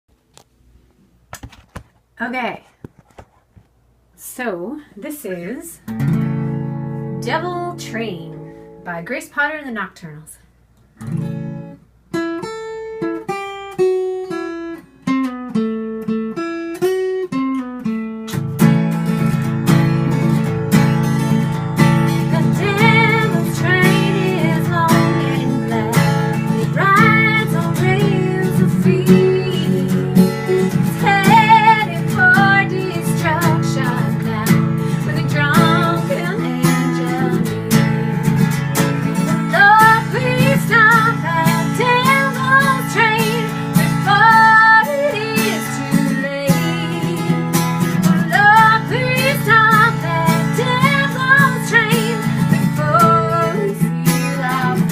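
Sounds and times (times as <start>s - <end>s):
acoustic guitar picking and strumming: 5.2s - 9.9s, 10.9s - 54.9s.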